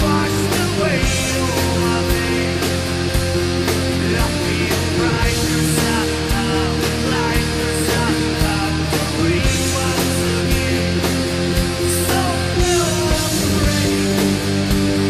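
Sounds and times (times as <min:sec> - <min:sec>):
backing track with steady beat: 0:00.0 - 0:15.0
electric guitar rock melody: 0:00.0 - 0:15.0.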